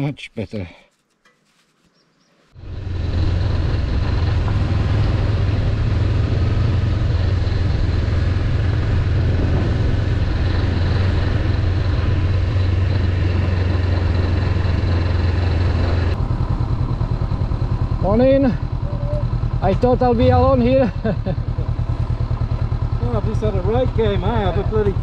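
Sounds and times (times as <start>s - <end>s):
motorcycle engine running steadily: 2.6s - 25.0s.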